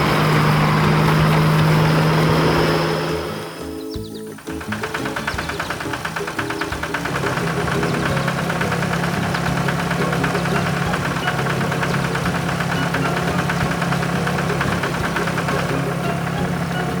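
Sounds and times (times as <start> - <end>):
cartoon engine chugging: 0.0 - 17.0.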